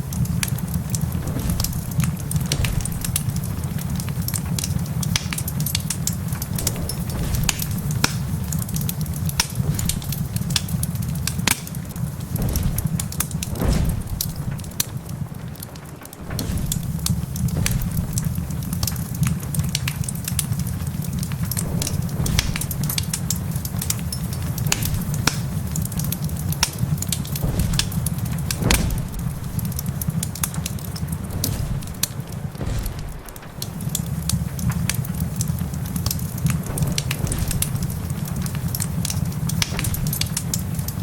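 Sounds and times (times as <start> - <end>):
steady low rumble: 0.0 - 41.0
wood fire crackling and popping: 0.0 - 41.0.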